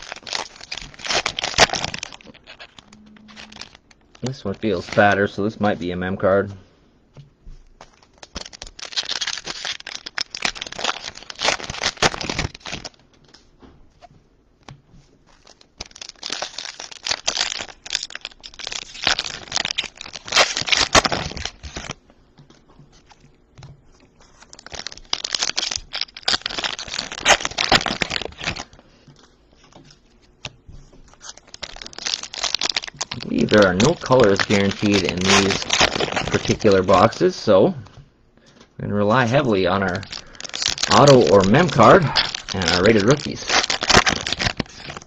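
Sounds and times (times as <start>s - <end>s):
plastic wrappers tearing and crinkling: 0.0s - 5.6s, 7.8s - 13.5s, 15.3s - 22.0s, 23.9s - 30.2s, 31.1s - 37.5s, 39.1s - 45.0s.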